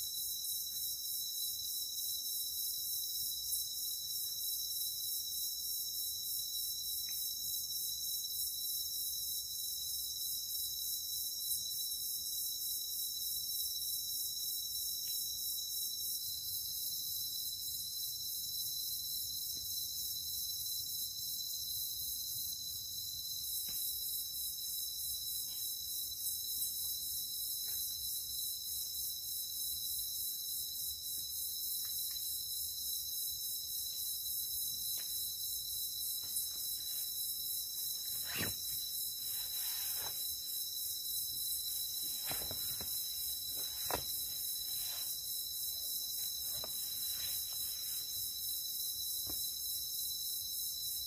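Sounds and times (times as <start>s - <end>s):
insect chorus: 0.0s - 51.0s.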